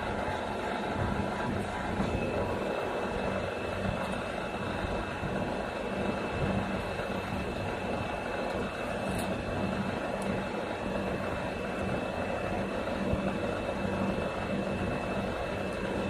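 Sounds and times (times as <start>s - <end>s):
tube bending machine humming: 0.0s - 16.0s.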